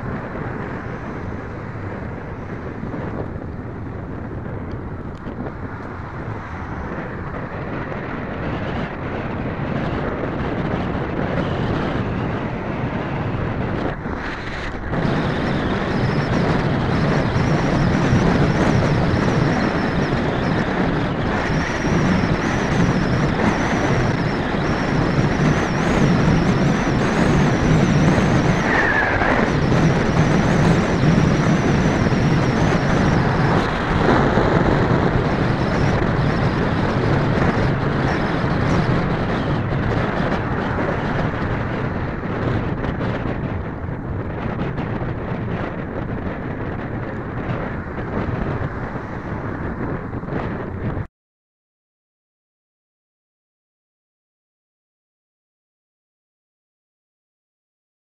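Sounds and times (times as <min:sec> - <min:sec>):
road traffic noise: 0:00.0 - 0:51.1
wind rushing over microphone: 0:00.0 - 0:51.1.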